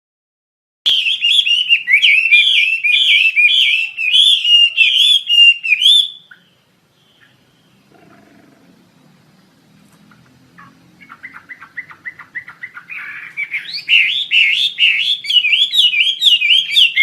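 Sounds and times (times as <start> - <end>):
songbird whistling song: 0.9 - 7.9, 10.1 - 17.0.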